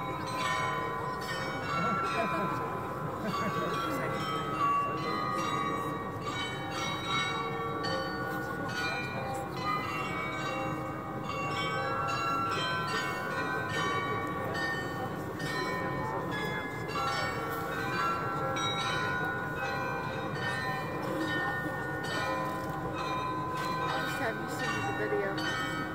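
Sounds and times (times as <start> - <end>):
background murmur: 0.0 - 25.9
tuned bells playing a tune: 0.0 - 25.9.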